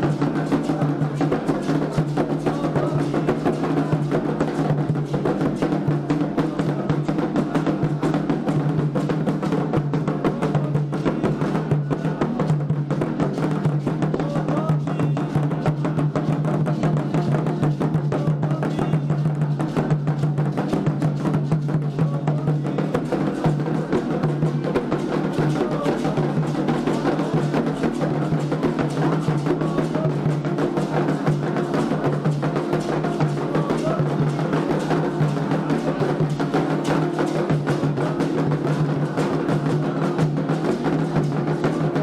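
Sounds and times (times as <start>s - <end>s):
hand drums fast rhythm: 0.0s - 42.0s.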